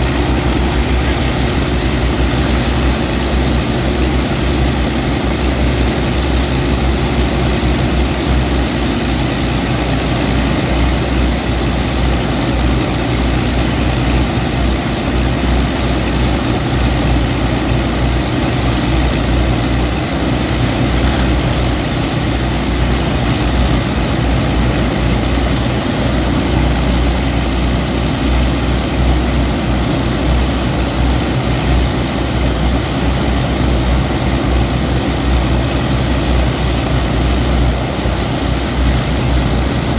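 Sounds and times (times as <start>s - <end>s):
propeller aircraft engines running: 0.0s - 39.9s.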